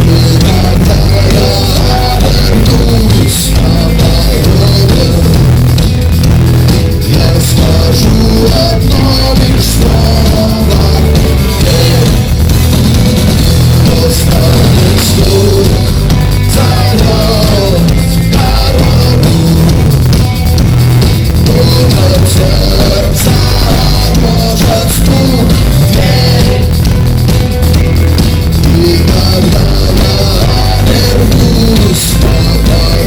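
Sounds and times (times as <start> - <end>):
person singing: 0.0 - 5.8, 7.0 - 12.4, 13.5 - 20.1, 21.3 - 27.0, 28.5 - 33.0
rock band playing: 0.0 - 33.0.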